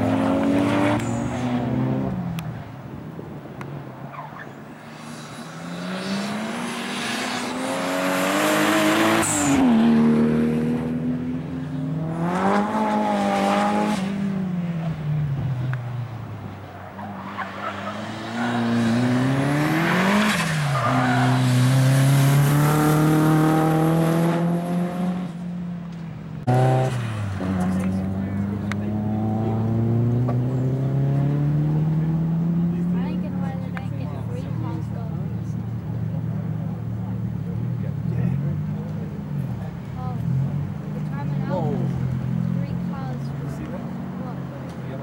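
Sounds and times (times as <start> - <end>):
sports cars accelerating hard: 0.0 - 2.7, 4.1 - 25.6, 26.4 - 45.0.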